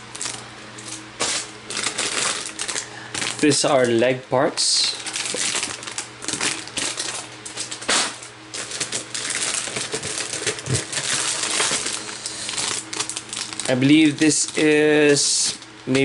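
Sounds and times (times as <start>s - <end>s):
plastic bags crinkling: 0.0s - 4.0s, 4.7s - 16.0s.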